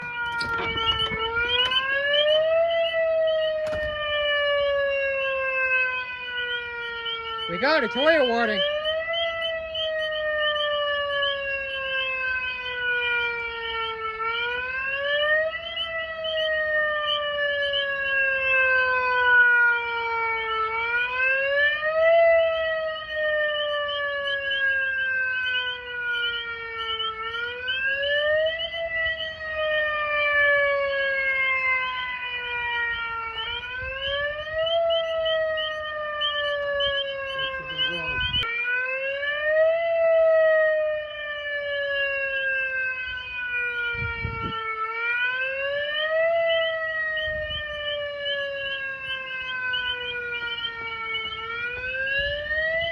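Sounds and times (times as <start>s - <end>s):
megaphone siren wailing: 0.0s - 52.9s.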